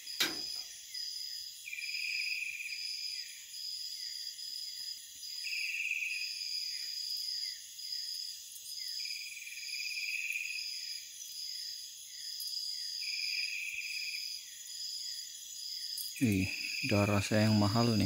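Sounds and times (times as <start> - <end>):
insect buzzing trill: 0.0 - 18.0
insect high pulsing trill: 0.0 - 18.0.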